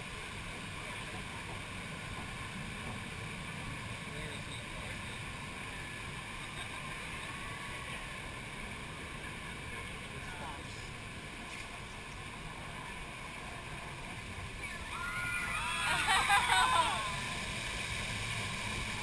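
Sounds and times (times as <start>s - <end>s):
flowing water: 0.0s - 19.0s.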